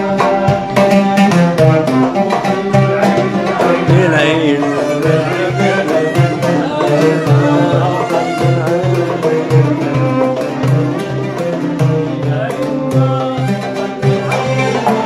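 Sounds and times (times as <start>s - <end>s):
oud: 0.0s - 15.0s
percussion beat: 0.0s - 15.0s
violin melody: 0.0s - 15.0s.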